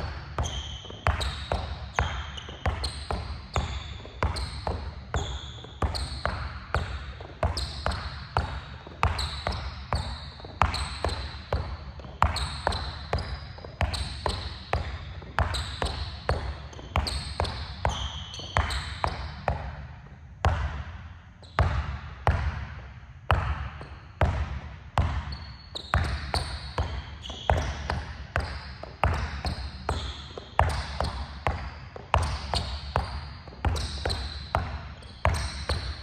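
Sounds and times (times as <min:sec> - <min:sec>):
basketball bouncing on gym floor: 0:00.0 - 0:36.0
sneakers squeaking on court: 0:00.0 - 0:36.0.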